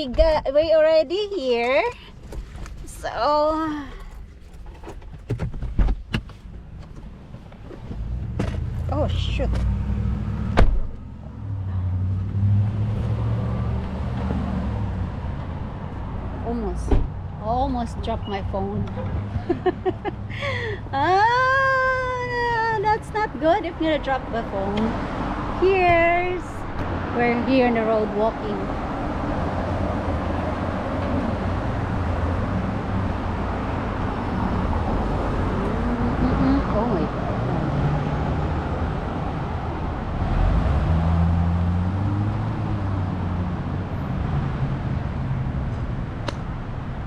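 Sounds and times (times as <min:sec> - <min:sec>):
vehicle and road rumble: 0:00.0 - 0:47.0.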